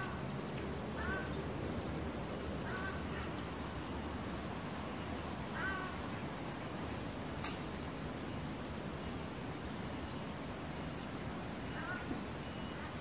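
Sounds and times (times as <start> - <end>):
low rumble of street ambience: 0.0 - 13.0.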